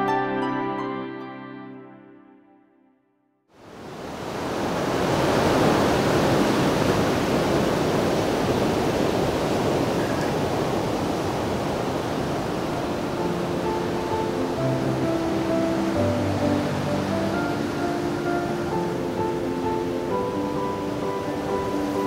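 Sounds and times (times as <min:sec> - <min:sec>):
rushing water: 0:03.6 - 0:22.0.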